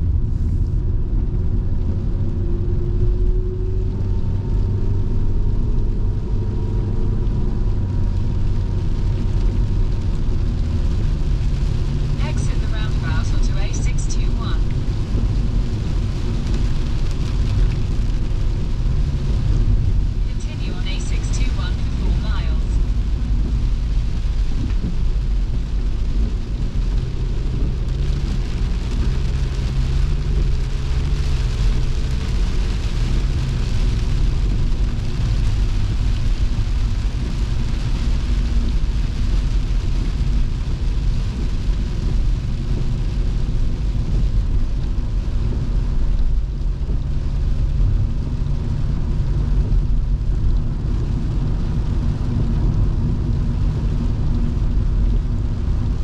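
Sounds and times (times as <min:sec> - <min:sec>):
car engine from inside cabin: 0:00.0 - 0:56.0
rain and wet tyres hiss: 0:00.0 - 0:56.0
road rumble: 0:00.0 - 0:56.0.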